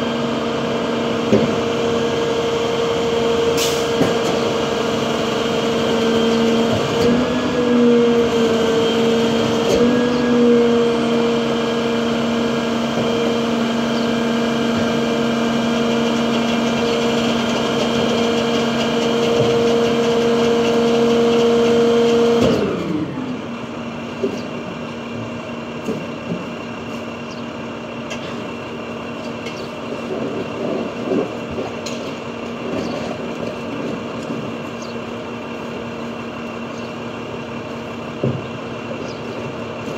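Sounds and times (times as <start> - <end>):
garbage truck engine humming: 0.0 - 39.9.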